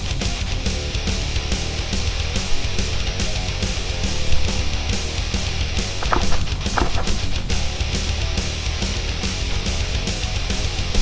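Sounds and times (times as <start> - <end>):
heavy metal music: 0.0 - 11.0.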